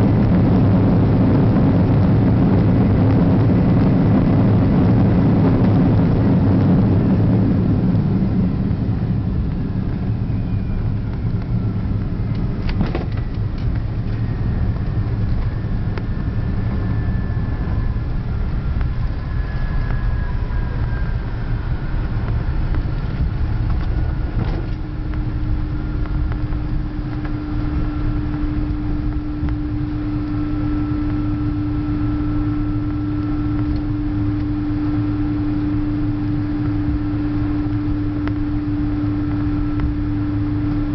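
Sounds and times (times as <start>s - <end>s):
airliner engine and rolling rumble: 0.0s - 40.9s
steady hum: 0.0s - 40.9s.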